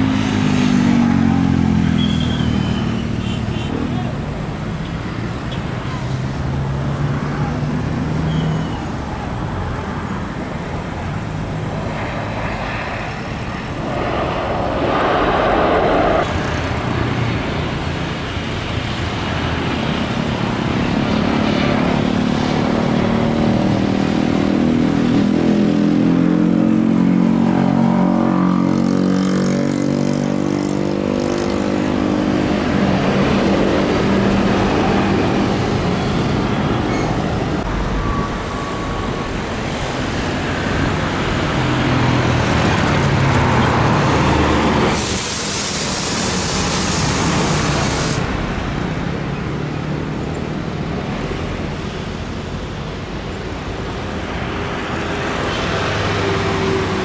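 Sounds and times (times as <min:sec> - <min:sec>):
jet engines drone: 0:00.0 - 0:57.0.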